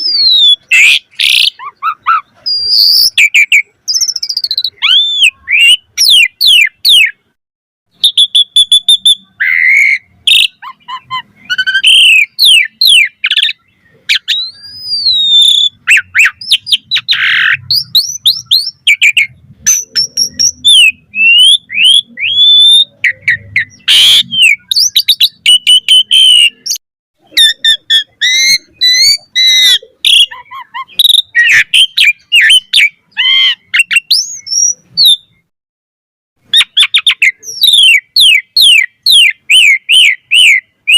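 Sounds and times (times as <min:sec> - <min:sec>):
starling singing varied song: 0:00.0 - 0:07.3, 0:07.9 - 0:35.5.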